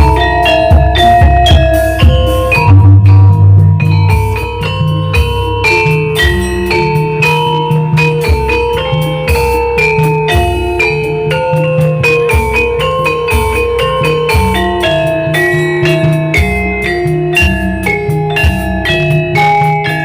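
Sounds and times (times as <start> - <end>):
drums: 0.0 - 20.0
metallophones ringing: 0.0 - 20.0.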